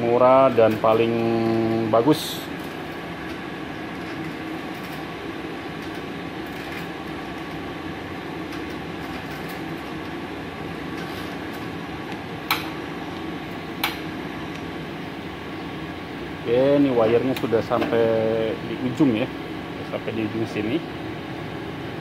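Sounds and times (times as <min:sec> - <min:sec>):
welder mechanical hum: 0:00.0 - 0:22.0.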